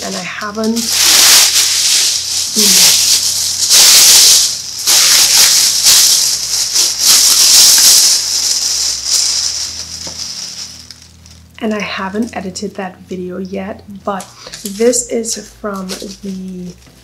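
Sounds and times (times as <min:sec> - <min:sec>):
plastic bag rustling and crinkling: 0:00.0 - 0:11.5, 0:14.4 - 0:17.0.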